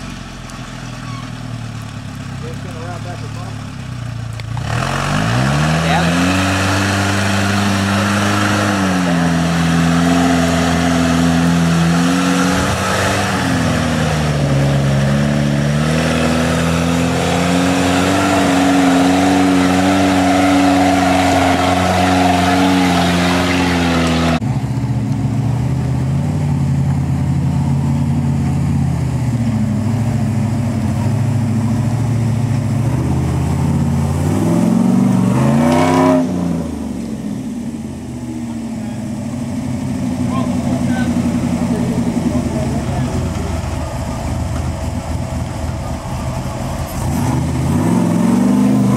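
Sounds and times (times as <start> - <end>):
off-road vehicle engine revving: 0.0 - 48.9.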